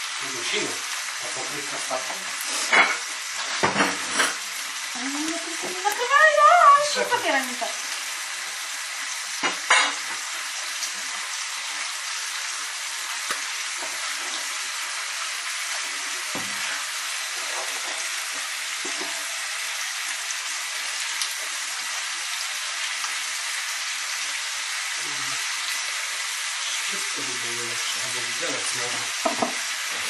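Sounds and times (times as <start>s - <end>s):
peppers sizzling in a frying pan: 0.0s - 30.0s.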